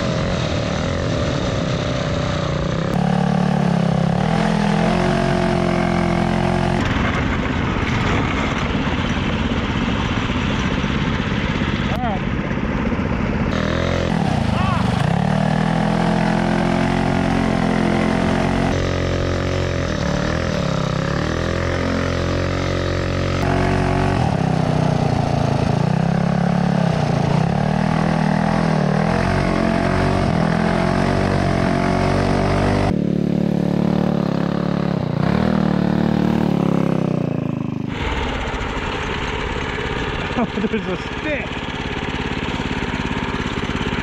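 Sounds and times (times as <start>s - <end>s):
go-kart engine revving: 0.0s - 44.0s.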